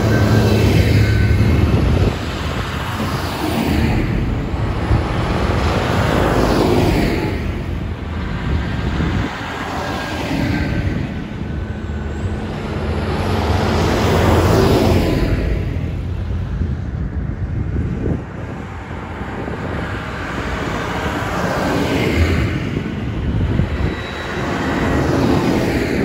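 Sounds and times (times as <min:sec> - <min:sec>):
tractors driving past: 0:00.0 - 0:26.0
tyre noise on road: 0:00.0 - 0:26.0.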